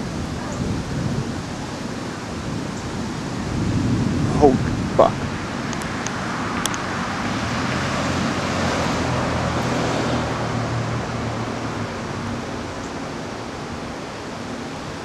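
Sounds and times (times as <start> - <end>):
low thunder rumble: 0.0 - 14.4
heavy rain falling: 0.0 - 15.0.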